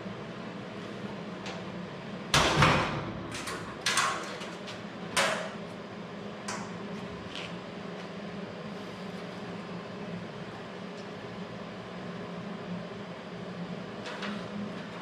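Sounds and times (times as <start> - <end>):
steady shop hum: 0.0 - 15.0.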